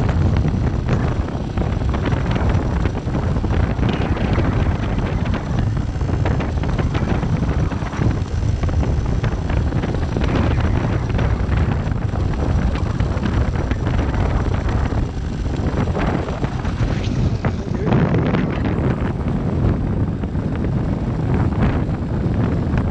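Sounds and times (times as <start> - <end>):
motorcycle engine running: 0.0 - 22.9
wind buffeting microphone: 0.0 - 22.9.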